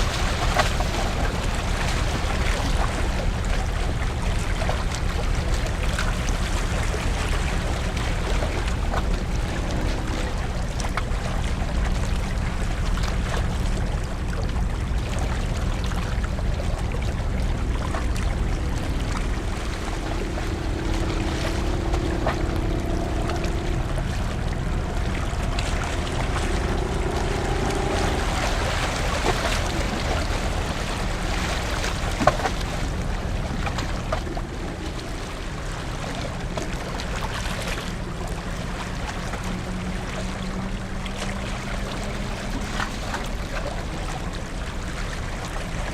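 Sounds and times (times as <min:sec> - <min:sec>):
rushing water wash: 0:00.0 - 0:45.9
ship engines rumbling: 0:00.0 - 0:45.9.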